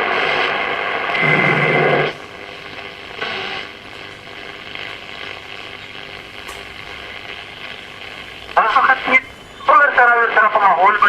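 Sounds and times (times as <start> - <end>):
radio signal snatch: 0.0 - 11.0
radio static and crackle: 0.0 - 11.0.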